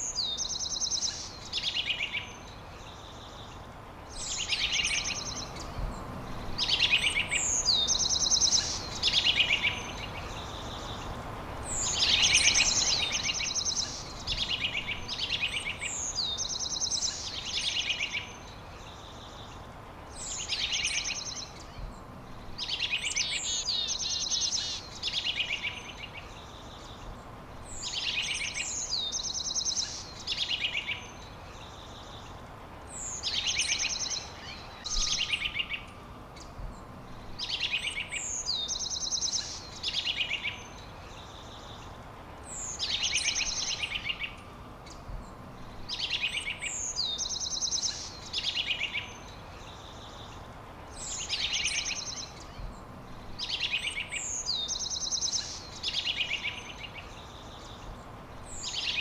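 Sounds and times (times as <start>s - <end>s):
songbird singing buzzy trill: 0.0s - 59.0s.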